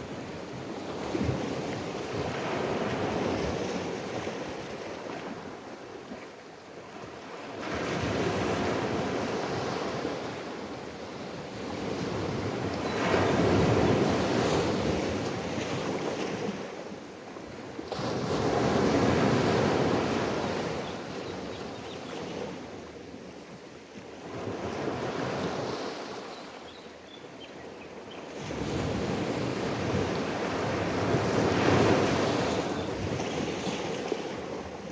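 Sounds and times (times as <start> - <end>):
ocean waves washing on shore: 0.0 - 26.6, 28.2 - 34.9.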